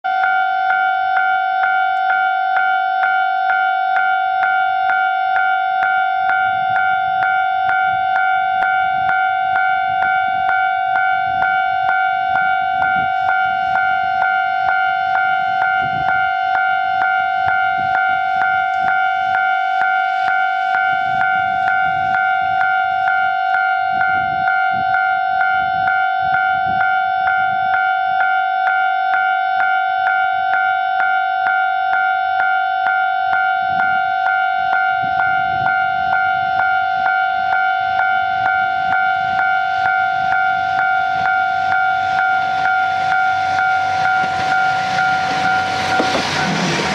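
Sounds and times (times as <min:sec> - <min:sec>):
level crossing warning bell dinging: 0:00.0 - 0:46.9.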